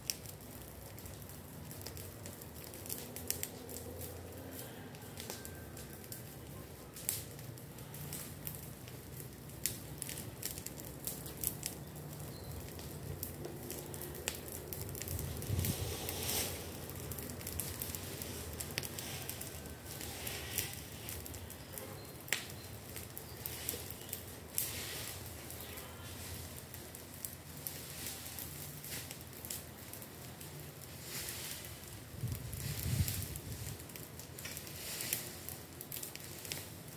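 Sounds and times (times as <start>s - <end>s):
dry twigs and leaves crackling: 0.0s - 36.9s.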